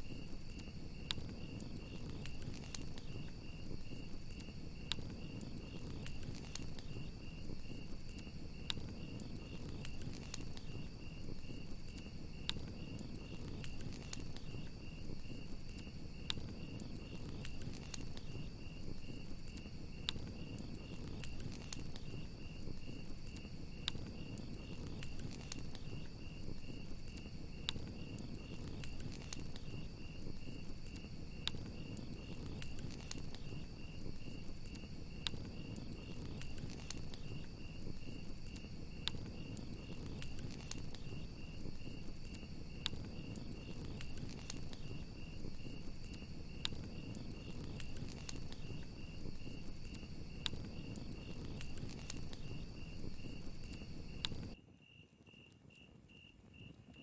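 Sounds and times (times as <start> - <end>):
campfire crackling and popping: 0.0 - 54.6
crickets chirping: 0.0 - 57.0.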